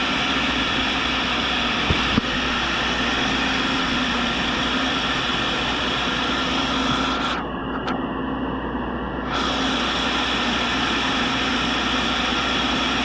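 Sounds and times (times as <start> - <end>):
grinder hiss and whine: 0.0 - 13.0.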